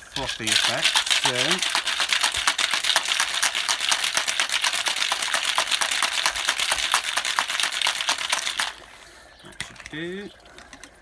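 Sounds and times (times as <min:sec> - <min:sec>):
ice rattling in cocktail shaker: 0:00.0 - 0:08.9, 0:09.5 - 0:11.0.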